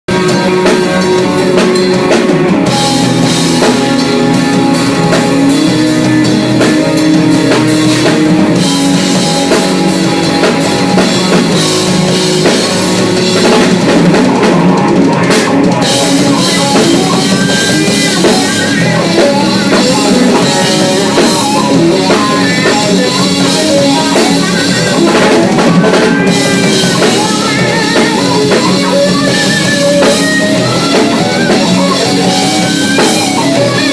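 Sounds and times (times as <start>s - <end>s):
loud rock music: 0.1s - 33.9s.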